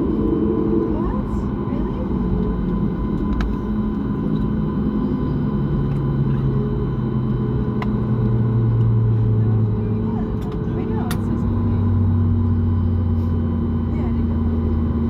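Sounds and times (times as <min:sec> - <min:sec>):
airliner engine and cabin rumble: 0:00.0 - 0:15.0
low hum dropping in pitch: 0:00.0 - 0:15.0.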